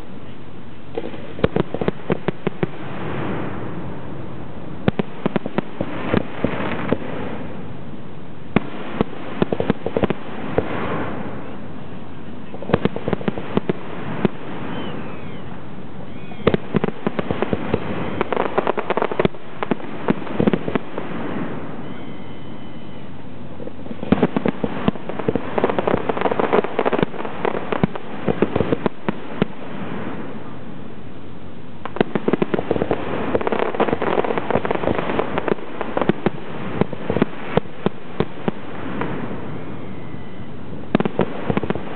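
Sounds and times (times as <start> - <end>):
fireworks bangs and crackles: 0.0 - 22.0, 23.0 - 41.9.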